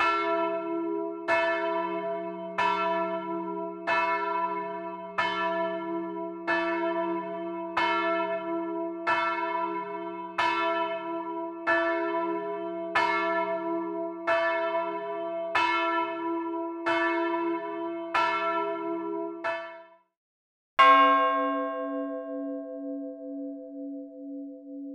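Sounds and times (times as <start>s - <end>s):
church bell ringing: 0.0s - 19.9s, 20.8s - 24.9s.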